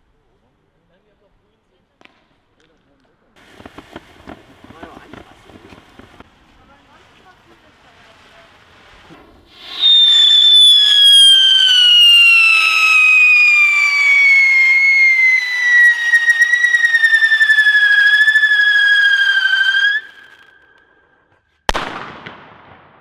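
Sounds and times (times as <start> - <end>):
whistling firework: 3.4 - 22.6.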